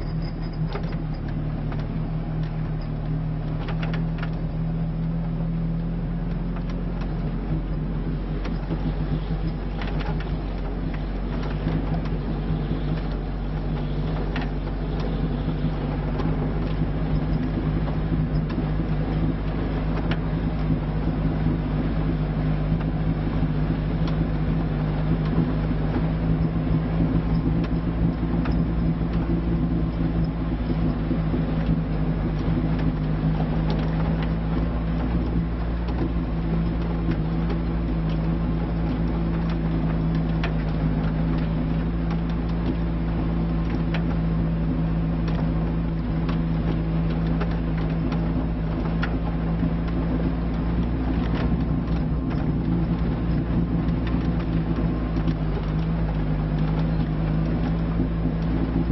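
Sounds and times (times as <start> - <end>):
car engine under load: 0.0 - 58.9.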